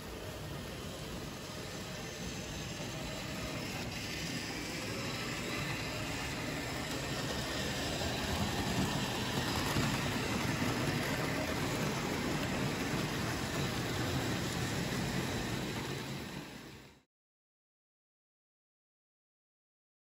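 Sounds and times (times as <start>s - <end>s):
wheels rolling over track: 0.0s - 16.9s
model train motors whirring: 0.0s - 17.0s.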